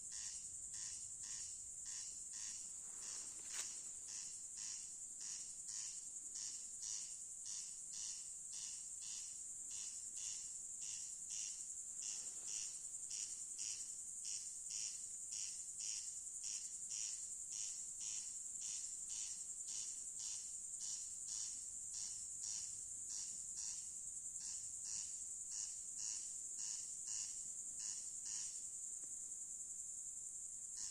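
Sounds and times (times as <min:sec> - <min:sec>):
high-pitched insect trill: 0:00.0 - 0:30.9.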